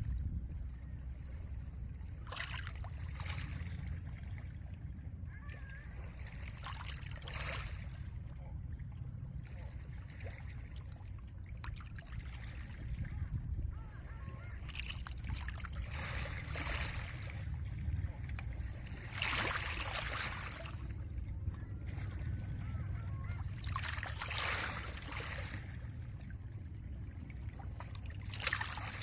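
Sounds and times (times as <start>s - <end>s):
low rumble of wind: 0.0s - 29.0s.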